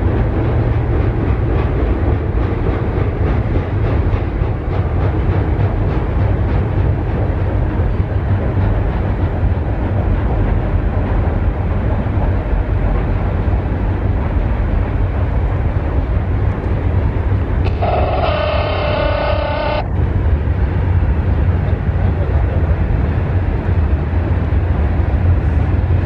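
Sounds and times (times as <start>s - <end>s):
freight train rolling past: 0.0s - 26.0s.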